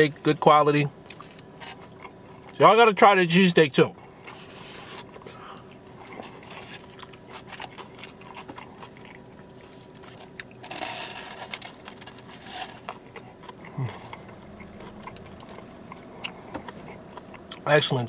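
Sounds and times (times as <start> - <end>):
man biting and chewing bread: 1.0 - 2.6, 3.9 - 17.7.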